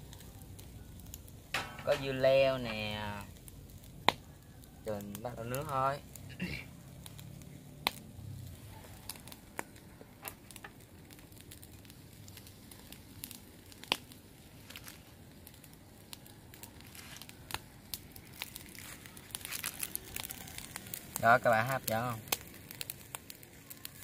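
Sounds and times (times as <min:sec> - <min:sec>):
charcoal crackling: 0:00.0 - 0:24.0.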